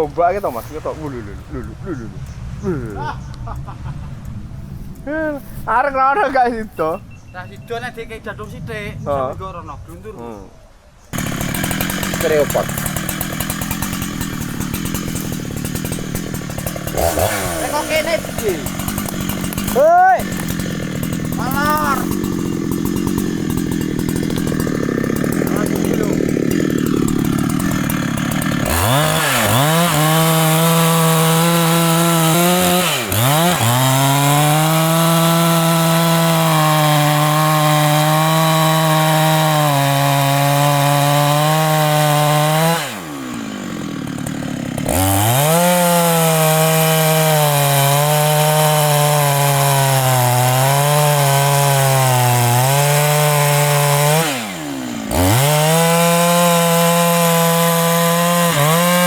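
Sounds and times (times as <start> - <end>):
chainsaw cutting: 0.0 - 6.9, 11.1 - 59.0.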